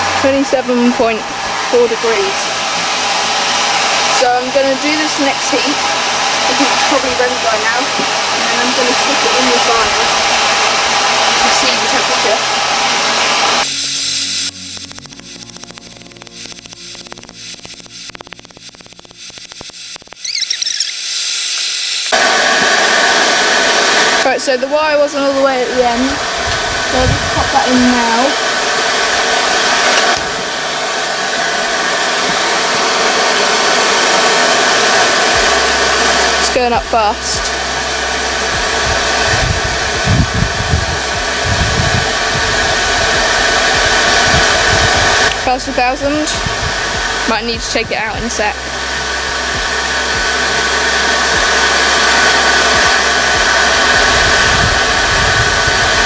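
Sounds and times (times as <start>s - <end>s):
forge forced air rushing: 0.0s - 56.0s.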